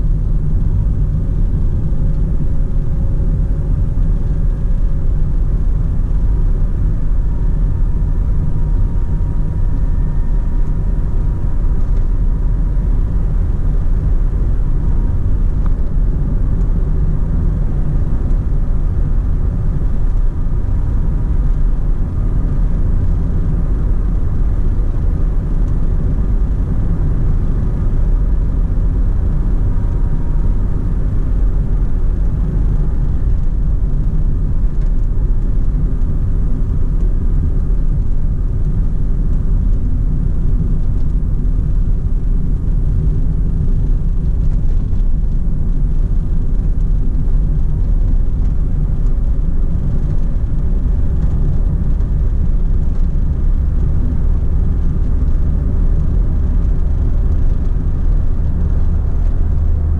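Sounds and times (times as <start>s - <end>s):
car cabin rumble: 0.0s - 59.9s.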